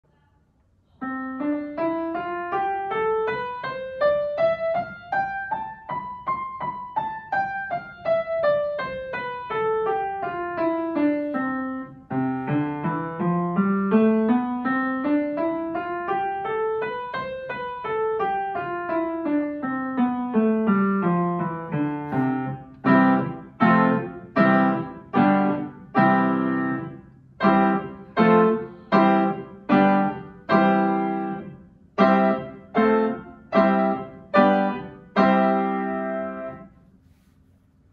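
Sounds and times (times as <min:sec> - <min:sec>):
piano playing scale: 0:01.0 - 0:36.7.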